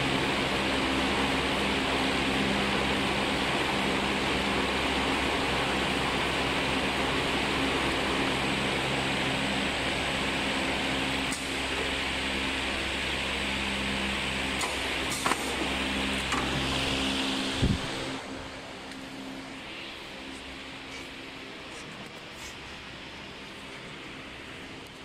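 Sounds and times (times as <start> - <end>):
wrapping machine humming: 0.0 - 25.0.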